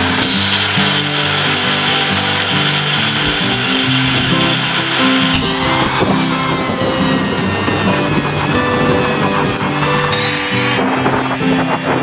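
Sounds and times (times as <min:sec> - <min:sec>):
background music: 0:00.0 - 0:12.0
power tools whining and grinding: 0:00.0 - 0:12.0.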